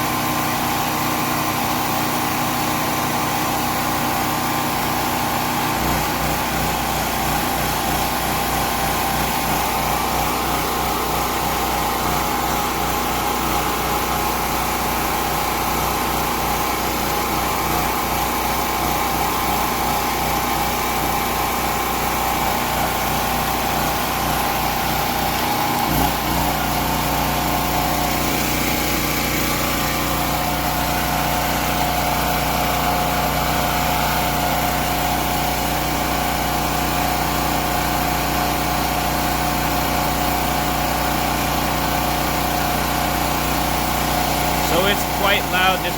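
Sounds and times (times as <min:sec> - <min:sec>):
generator engine running: 0:00.0 - 0:45.9.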